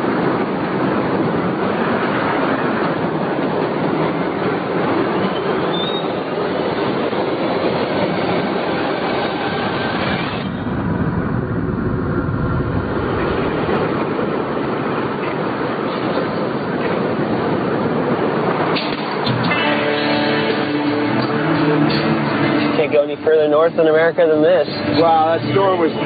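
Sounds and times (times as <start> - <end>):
blizzard wind blowing hard: 0.0 - 22.8.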